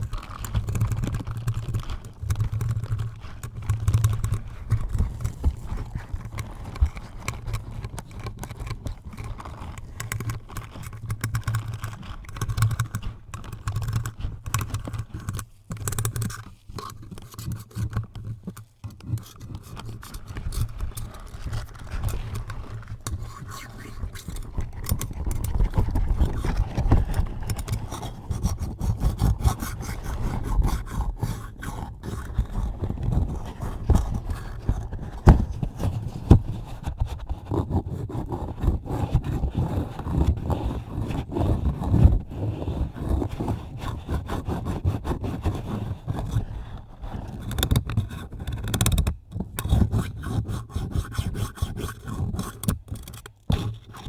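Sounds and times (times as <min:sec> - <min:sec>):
scratching on microphone: 0:00.0 - 0:54.0.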